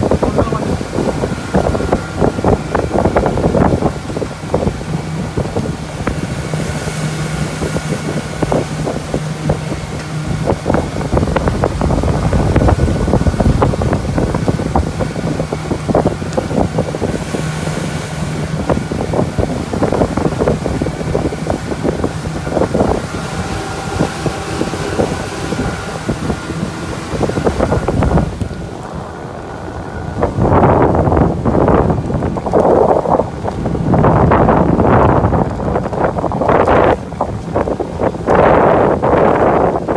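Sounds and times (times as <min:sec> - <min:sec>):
motorboat engine droning: 0:00.0 - 0:39.9
wind buffeting microphone: 0:00.0 - 0:39.9.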